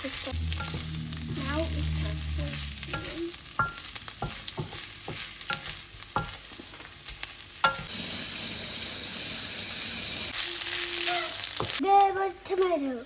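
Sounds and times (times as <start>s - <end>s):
sausage sizzling in a pan: 0.0s - 13.0s.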